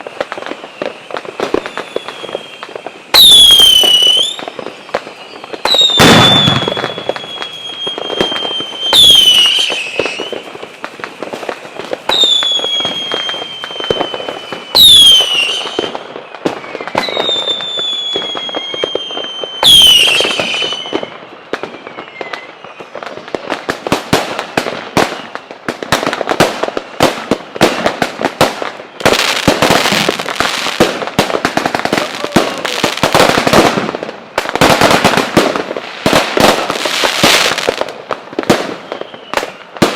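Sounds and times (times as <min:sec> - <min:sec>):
fireworks crackling and popping: 0:00.0 - 0:39.9
whistling fireworks: 0:00.0 - 0:39.9.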